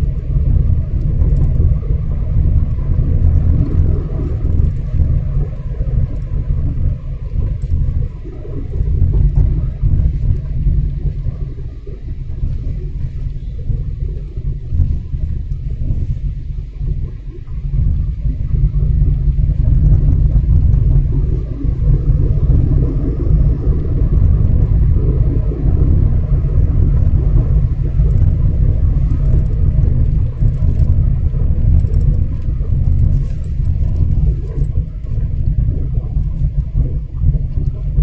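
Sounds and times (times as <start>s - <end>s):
car cabin road and engine rumble: 0.0s - 38.0s.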